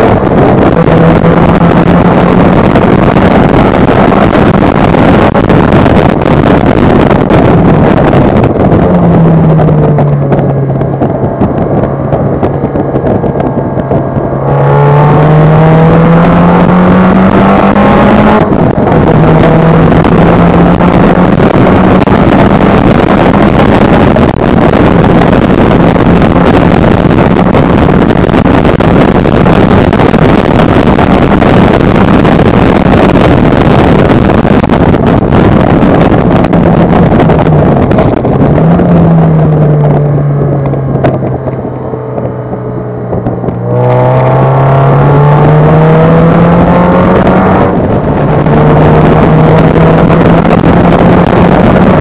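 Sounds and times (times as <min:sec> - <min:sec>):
car engine at speed: 0:00.0 - 0:52.0
wind rush: 0:00.0 - 0:52.0.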